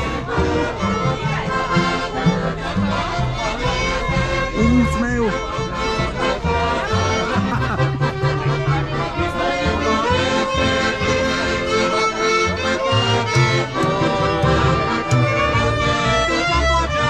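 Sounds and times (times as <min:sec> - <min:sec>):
accordion folk music: 0:00.0 - 0:17.0
pulsing bass line: 0:00.0 - 0:17.0.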